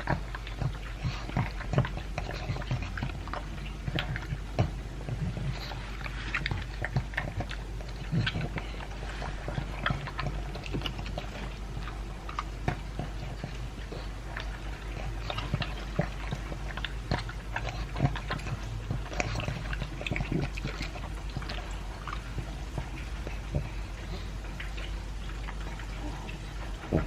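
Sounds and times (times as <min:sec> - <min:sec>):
dog crunching kibble: 0:00.0 - 0:27.0
steady low hum: 0:00.0 - 0:27.0.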